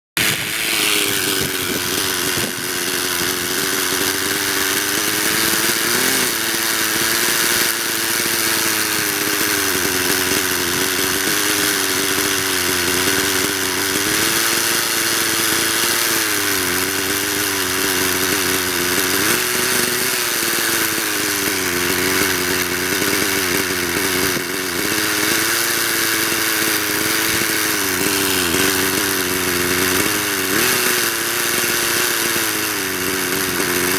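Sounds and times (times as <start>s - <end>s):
rc helicopter engine and rotor: 0.0s - 33.9s.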